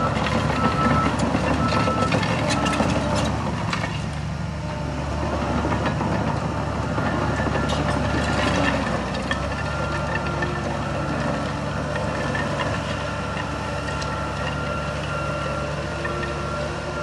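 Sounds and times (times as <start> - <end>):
heavy diesel engine rumble: 0.0 - 17.0.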